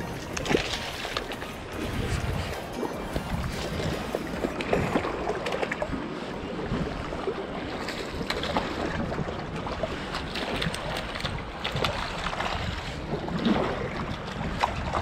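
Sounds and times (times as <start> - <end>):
water lapping against wharf: 0.0 - 15.0
wind buffeting microphone: 0.0 - 15.0.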